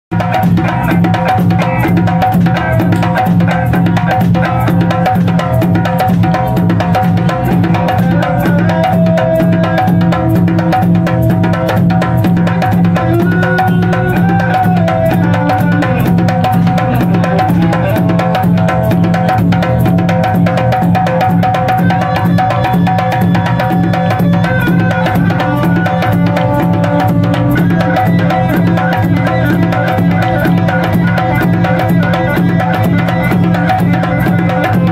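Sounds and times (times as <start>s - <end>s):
hand drums beating: 0.1s - 34.9s.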